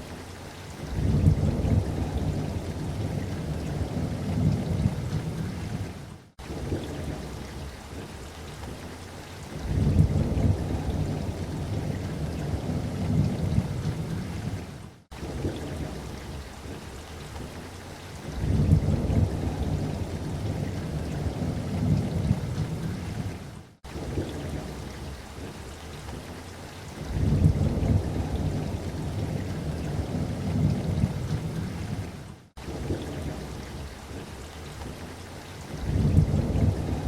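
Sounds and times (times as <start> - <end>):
steady rain: 0.0 - 37.0
thunder rumbling low: 0.8 - 8.8, 9.5 - 17.0, 18.2 - 25.8, 27.0 - 35.0, 35.7 - 37.0.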